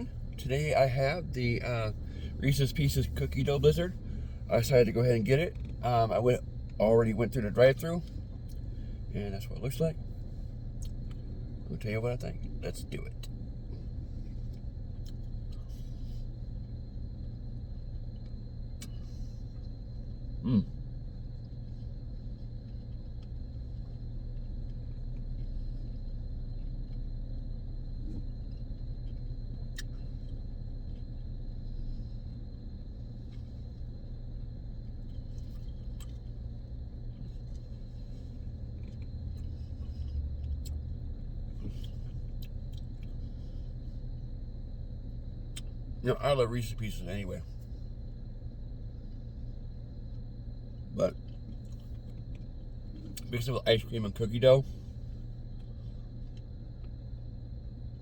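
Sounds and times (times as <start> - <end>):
car idling rumble: 0.0 - 58.0.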